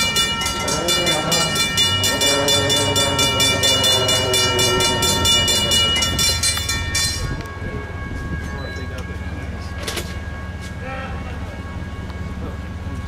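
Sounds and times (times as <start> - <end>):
electronic crossing bells ringing: 0.0 - 13.0.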